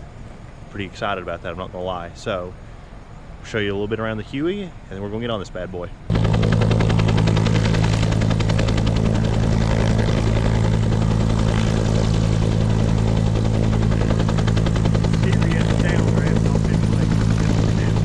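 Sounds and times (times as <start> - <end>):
helicopter rotor beat: 0.0 - 18.0
helicopter turbine hum: 0.0 - 18.0.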